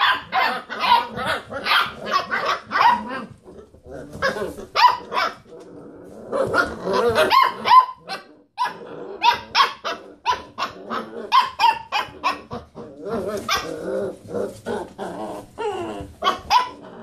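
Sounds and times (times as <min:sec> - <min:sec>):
puppies barking and yapping: 0:00.0 - 0:17.0
puppies growling: 0:00.0 - 0:17.0.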